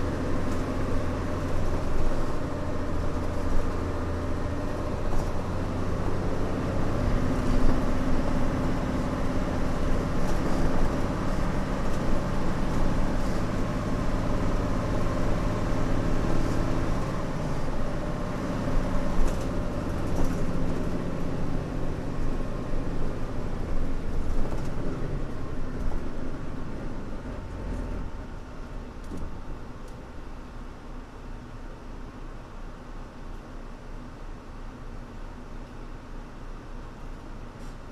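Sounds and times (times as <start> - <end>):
bus diesel engine running: 0.0 - 37.9.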